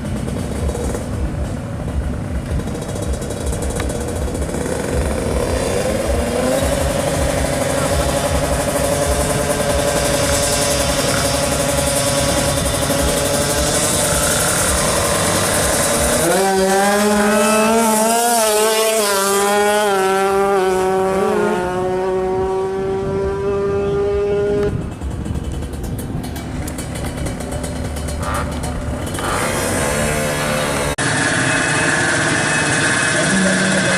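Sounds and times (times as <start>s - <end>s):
two-stroke motorcycle engine revving: 0.0s - 33.9s.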